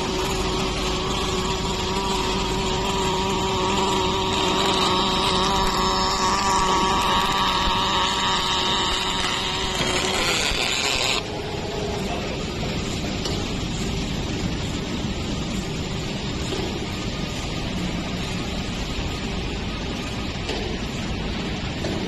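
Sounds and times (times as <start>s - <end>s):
continuous hiss: 0.0s - 22.0s
machine hum with held tones: 0.0s - 22.0s.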